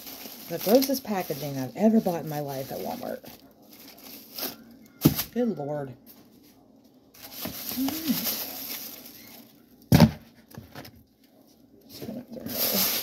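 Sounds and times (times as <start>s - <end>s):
plastic packaging rustling: 0.0s - 5.4s, 6.0s - 10.8s, 12.0s - 13.0s.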